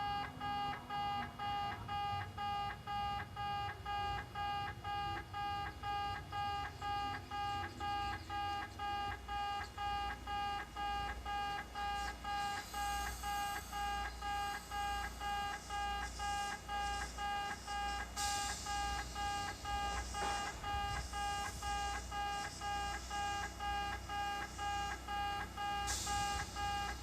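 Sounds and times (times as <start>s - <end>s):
level crossing alarm beeping: 0.0s - 27.0s.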